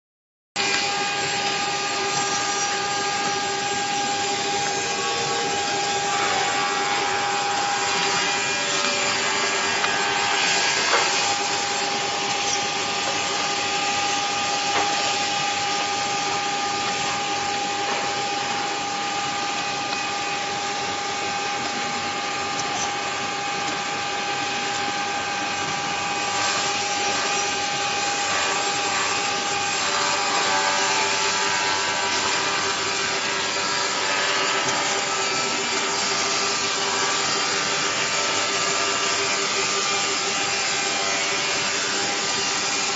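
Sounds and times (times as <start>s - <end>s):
woodworking machine motor whine: 0.6s - 42.9s.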